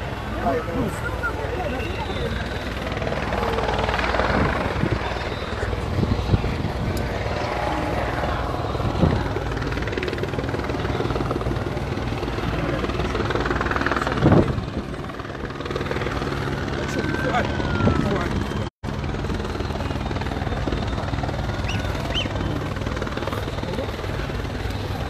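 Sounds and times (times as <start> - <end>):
crowd voices: 0.0 - 25.0
low engine drone: 0.0 - 25.0.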